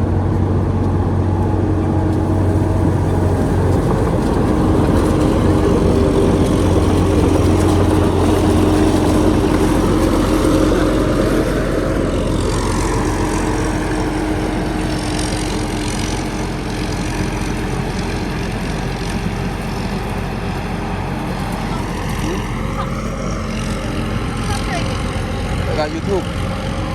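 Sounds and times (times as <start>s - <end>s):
motor engine running: 0.0s - 26.9s
wavering whine: 0.0s - 26.9s.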